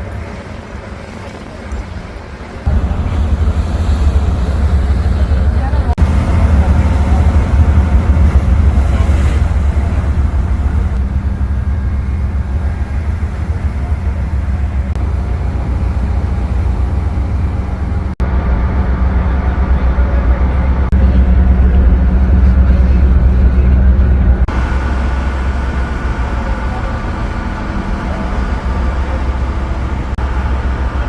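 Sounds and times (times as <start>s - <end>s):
boat diesel engine rumbling: 0.0s - 31.0s.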